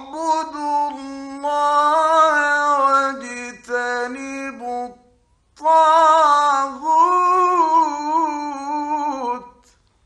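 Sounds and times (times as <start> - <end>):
man chanting recitation: 0.0 - 9.7.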